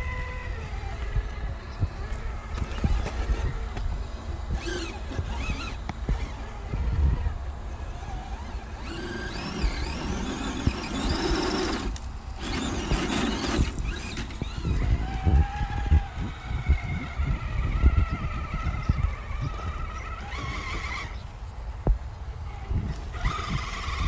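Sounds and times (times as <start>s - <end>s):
electric motor and gear whine: 0.0s - 24.0s.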